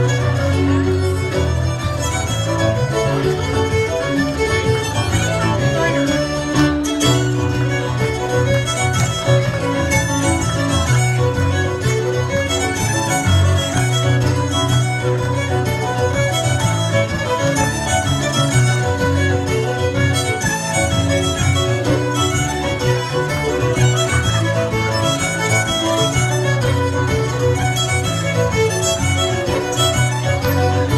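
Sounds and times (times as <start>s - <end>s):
fiddle playing a tune: 0.0s - 30.9s
keyboard accompaniment: 0.0s - 30.9s.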